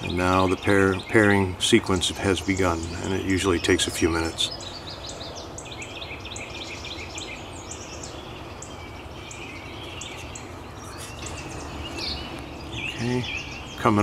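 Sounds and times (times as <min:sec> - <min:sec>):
low outdoor background rumble: 0:00.0 - 0:14.0
small birds chirping: 0:00.0 - 0:14.0.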